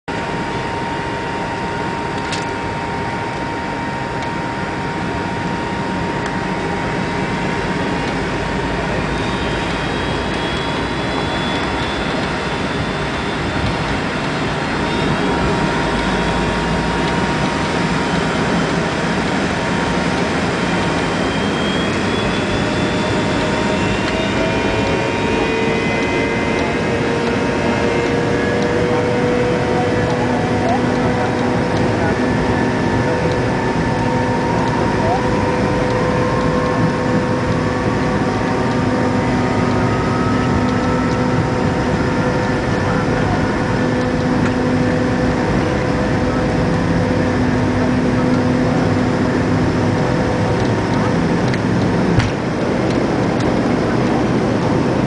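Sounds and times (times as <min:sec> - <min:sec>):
jet engines rushing and whining: 0:00.1 - 0:55.0.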